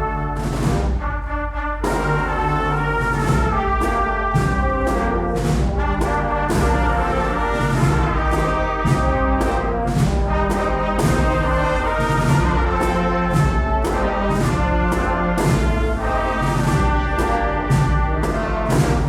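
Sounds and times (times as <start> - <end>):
brass chords: 0.0 - 19.0
drum and cymbal strokes: 1.8 - 19.0.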